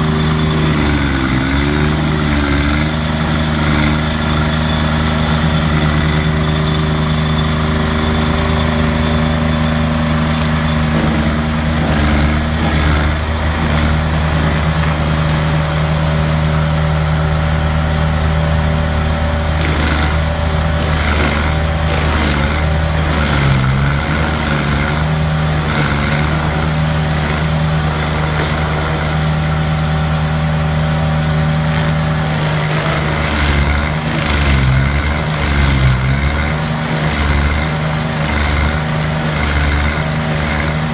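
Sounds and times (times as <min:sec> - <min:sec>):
cutter wheel grinding stump: 0:00.0 - 0:40.9
stump grinder engine running: 0:00.0 - 0:40.9.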